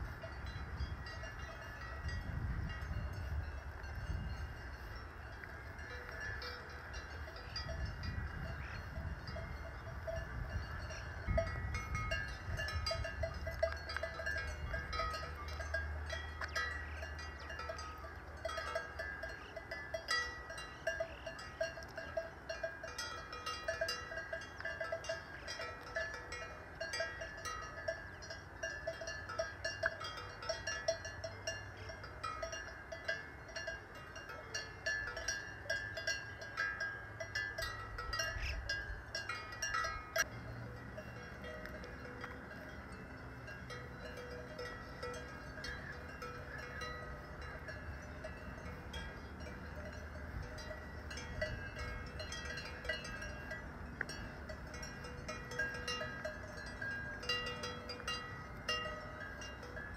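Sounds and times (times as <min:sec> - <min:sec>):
cowbells clanking: 0:00.0 - 0:59.9.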